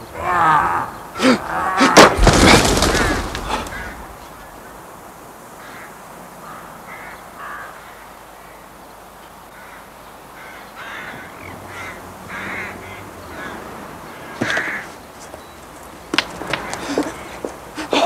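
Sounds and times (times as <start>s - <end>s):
harsh bird calls: 0.0s - 18.0s.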